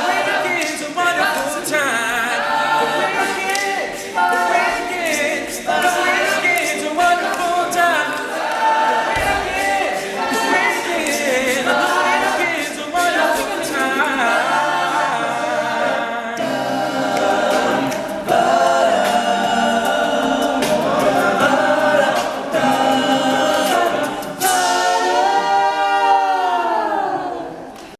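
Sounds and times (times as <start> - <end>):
male group singing a cappella: 0.0 - 27.6.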